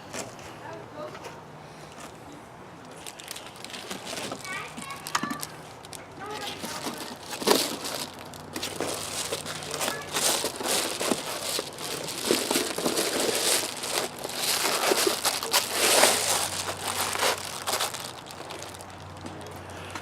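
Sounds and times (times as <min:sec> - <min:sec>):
foil insulation crinkling: 0:02.8 - 0:20.0.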